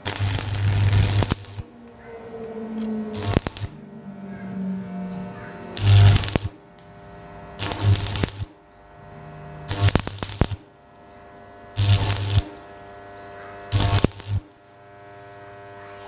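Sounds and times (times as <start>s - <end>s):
welder humming: 0.0s - 16.0s
welding arc crackling and buzzing: 0.0s - 16.0s.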